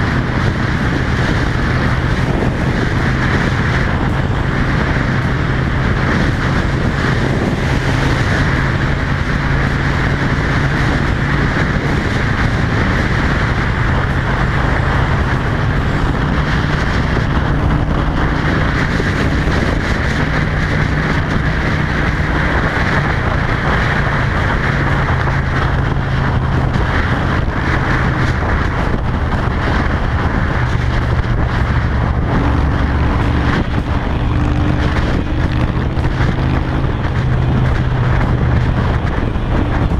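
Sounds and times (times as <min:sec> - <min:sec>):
motorcycle engine with loud exhaust: 0:00.0 - 0:39.9
wind noise on microphone: 0:00.0 - 0:39.9.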